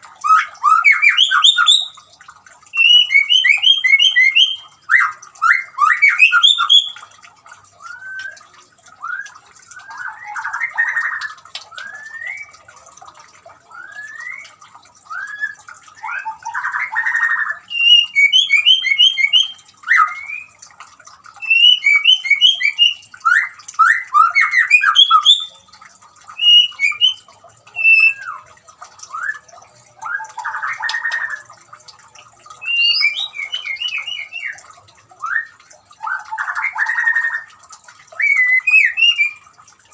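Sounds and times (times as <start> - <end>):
bird singing whistled phrases: 0.3 - 2.0, 2.7 - 7.1, 7.8 - 12.6, 13.7 - 20.6, 21.4 - 25.6, 26.4 - 28.5, 29.1 - 31.5, 32.6 - 34.6, 35.2 - 37.5, 38.2 - 39.4.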